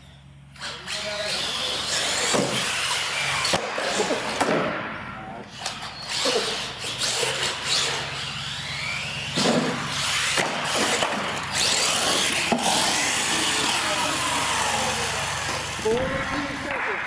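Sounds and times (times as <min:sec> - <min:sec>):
electric motor and gears whining: 0:00.0 - 0:04.7, 0:05.4 - 0:16.9.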